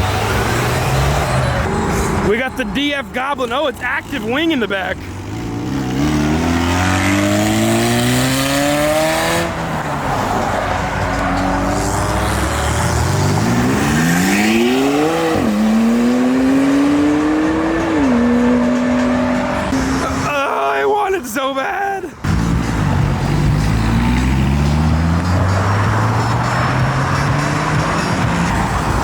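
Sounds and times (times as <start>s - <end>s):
car engine accelerating hard: 0.0s - 2.4s, 4.0s - 20.3s, 22.2s - 29.0s.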